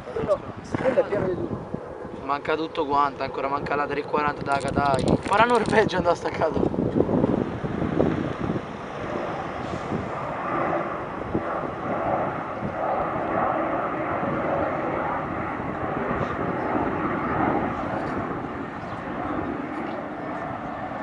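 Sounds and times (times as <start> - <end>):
jet engine noise: 0.0 - 21.0.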